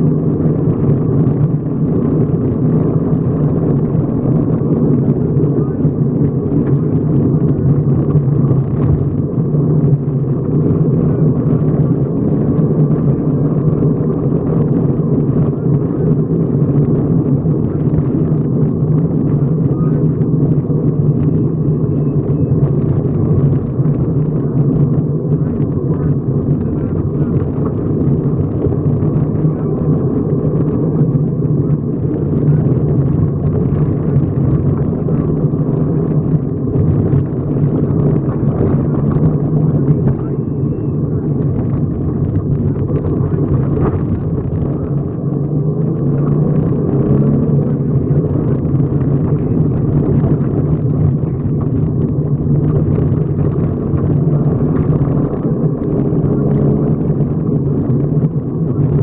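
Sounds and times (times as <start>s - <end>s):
gravel crackling against underbody: 0.0s - 59.0s
rally car engine drone: 0.0s - 59.0s.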